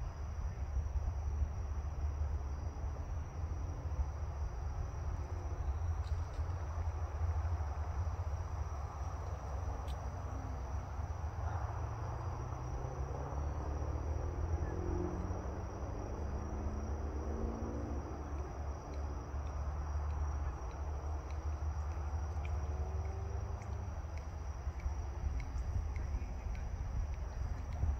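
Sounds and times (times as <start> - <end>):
crickets chirping: 0.0 - 27.9
faint rising whines: 1.3 - 27.9.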